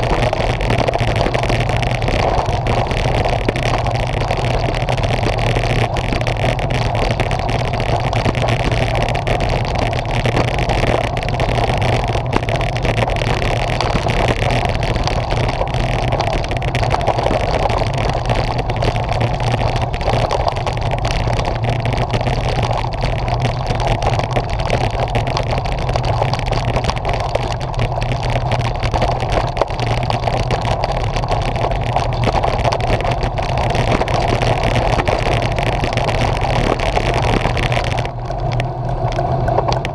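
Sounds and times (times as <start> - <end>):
bike tyres rattling over cobblestones: 0.0 - 39.9
wind on microphone: 0.0 - 39.9.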